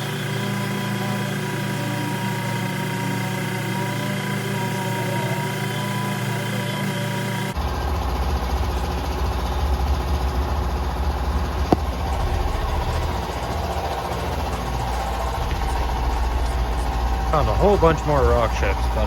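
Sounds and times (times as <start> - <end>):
sander rumbling: 0.0 - 19.0.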